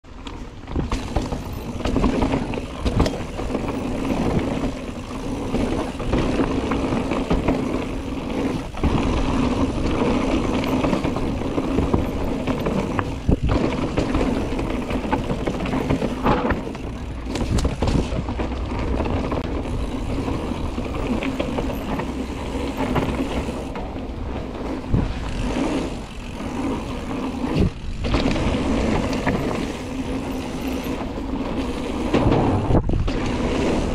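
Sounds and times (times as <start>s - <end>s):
bike tyre and trail noise: 0.0s - 33.9s
bike knocks and rattles: 0.1s - 33.9s.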